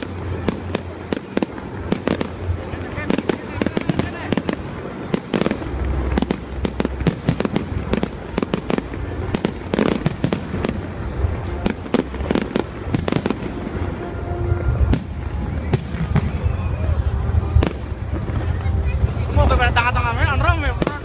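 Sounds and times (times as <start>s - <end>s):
continuous low rumble: 0.0s - 21.0s
fireworks bangs: 0.0s - 21.0s.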